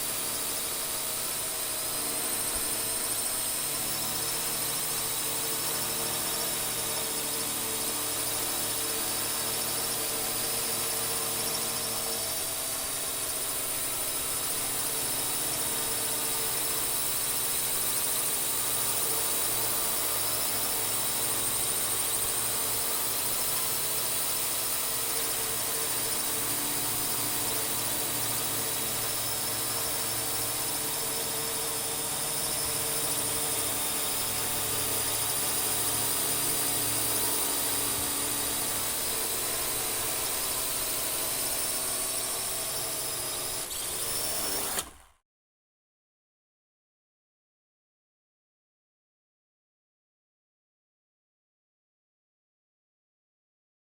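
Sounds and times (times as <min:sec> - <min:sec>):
quadcopter drone whining: 0:00.0 - 0:45.2.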